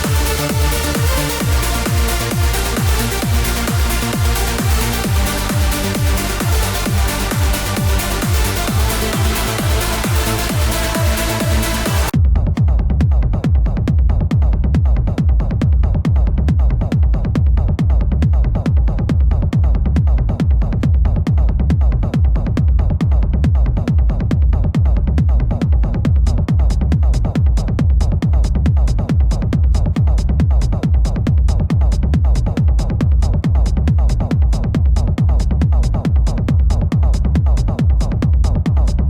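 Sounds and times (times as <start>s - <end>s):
techno music with heavy bass: 0.0s - 39.0s.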